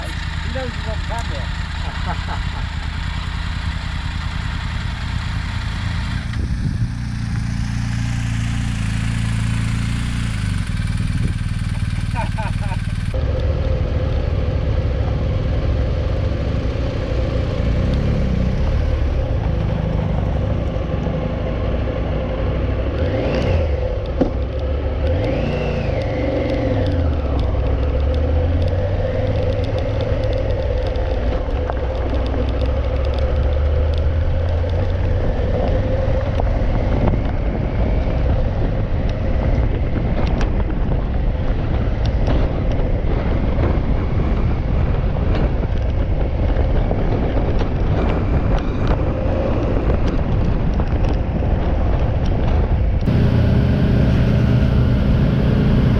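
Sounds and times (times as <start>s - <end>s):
motorcycle engine running: 0.0s - 55.9s
wind noise: 6.2s - 21.6s, 25.1s - 55.9s.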